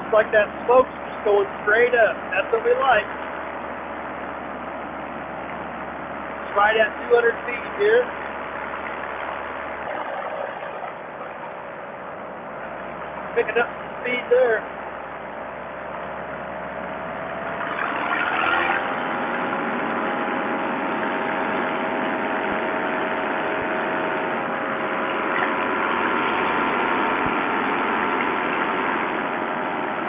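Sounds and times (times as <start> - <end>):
paramotor engine running: 0.0 - 30.0.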